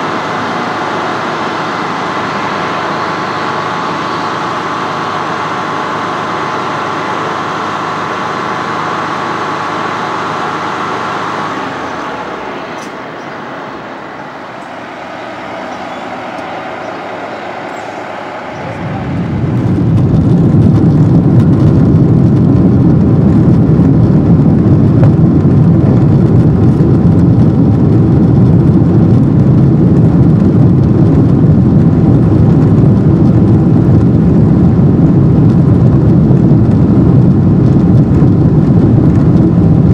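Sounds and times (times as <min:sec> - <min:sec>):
jet engine high whine: 0:00.0 - 0:39.9
jet engines roaring at take-off: 0:00.0 - 0:39.9.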